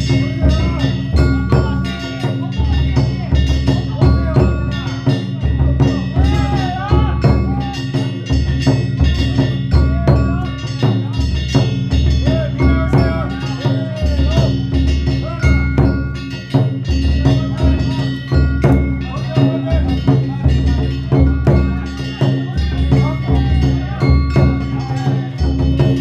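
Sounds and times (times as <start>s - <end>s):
hand gongs clanging: 0.0s - 26.0s
taiko drum beating fast: 0.0s - 26.0s
voices calling out: 0.0s - 26.0s.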